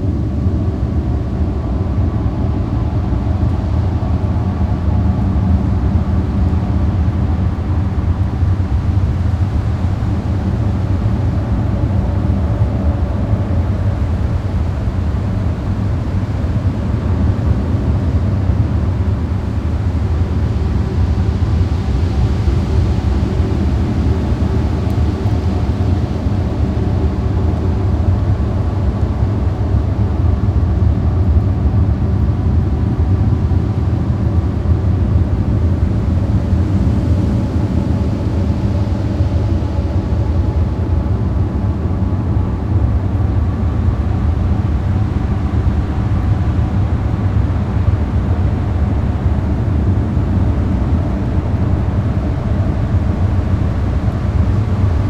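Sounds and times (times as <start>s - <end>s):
low rumbling drone: 0.0s - 55.0s.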